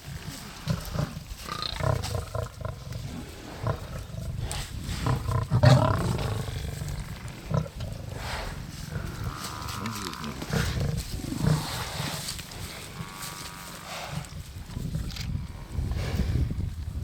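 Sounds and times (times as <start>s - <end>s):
lions growling and snarling: 0.0s - 17.0s.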